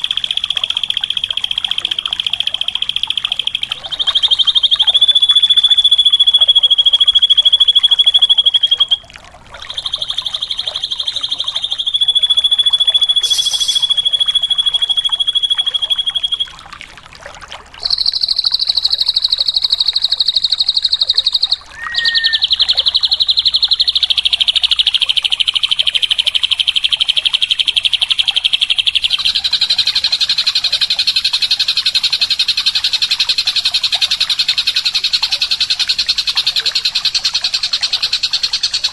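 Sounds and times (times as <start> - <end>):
bird singing rapid high trills: 0.0 - 16.7, 17.8 - 38.9.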